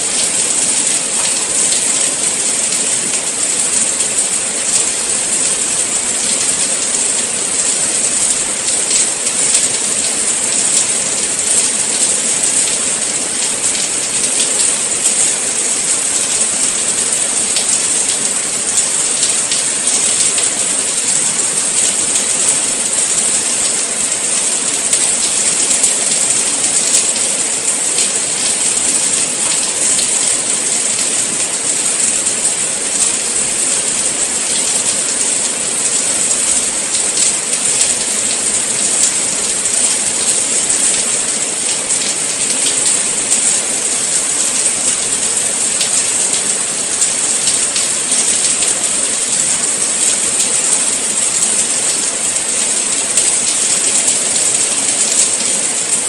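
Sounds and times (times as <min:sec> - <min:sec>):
steady rain falling: 0:00.0 - 0:56.0
faint raindrop ticks: 0:00.1 - 0:56.0.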